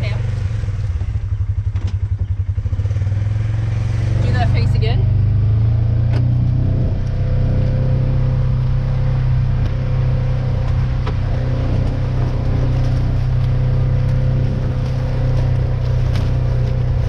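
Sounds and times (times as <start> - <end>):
buggy engine droning: 0.0 - 17.0.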